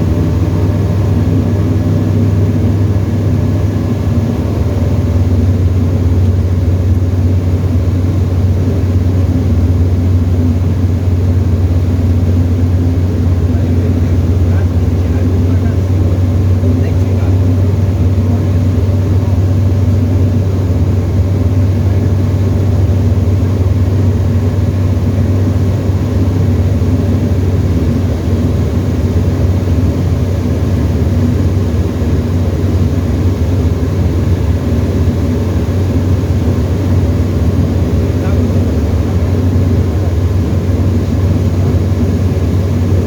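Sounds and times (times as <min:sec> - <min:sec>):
light aircraft engine droning: 0:00.0 - 0:43.0.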